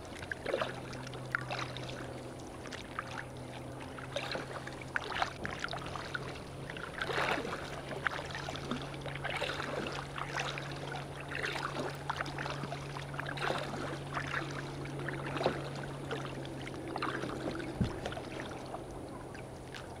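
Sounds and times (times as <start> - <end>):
low steady hum: 0.0 - 20.0
paddle strokes splashing: 0.0 - 20.0
water lapping at hull: 0.0 - 20.0.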